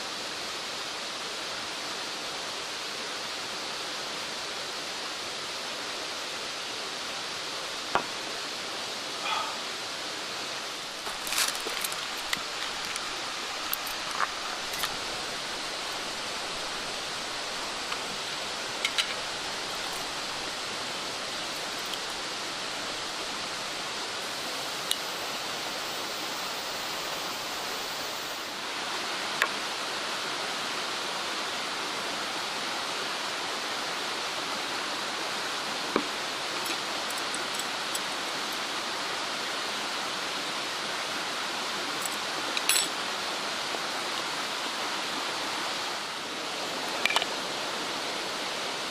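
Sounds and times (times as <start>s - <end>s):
mountain stream rushing: 0.0s - 48.9s.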